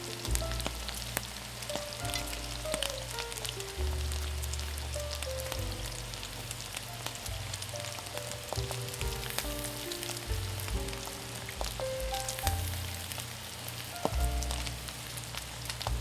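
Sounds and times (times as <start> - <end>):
food sizzling on iron plate: 0.0 - 16.0
soft background music: 0.0 - 16.0.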